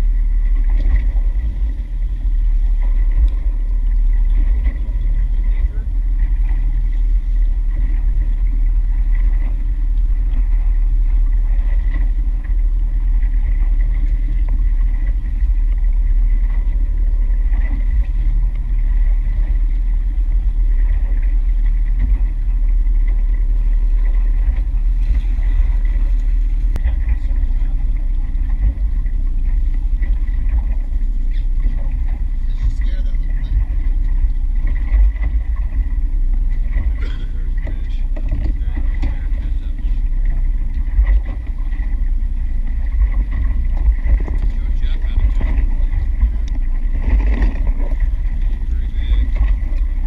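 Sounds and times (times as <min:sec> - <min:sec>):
outboard motor running: 0:00.0 - 0:50.0.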